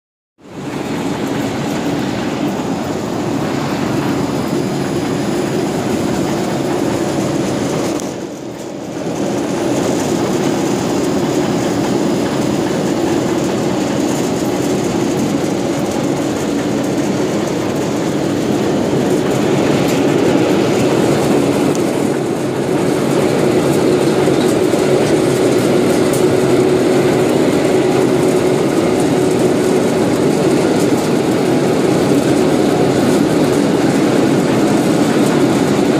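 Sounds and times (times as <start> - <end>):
ginning machinery drone: 0.4 - 35.9.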